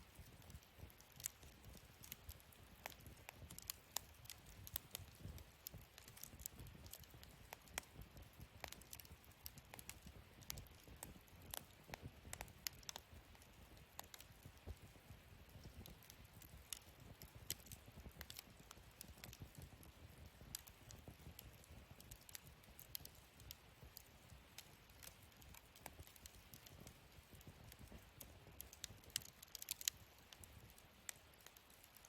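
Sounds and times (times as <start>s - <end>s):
small crackles and pops: 0.0s - 32.0s
wood fire crackling: 0.0s - 32.0s.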